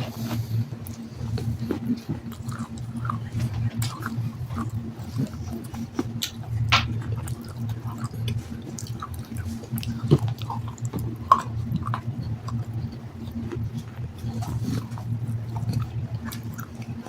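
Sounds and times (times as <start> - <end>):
low steady hum: 0.0 - 17.0
chewing and crunching stone: 0.2 - 17.0.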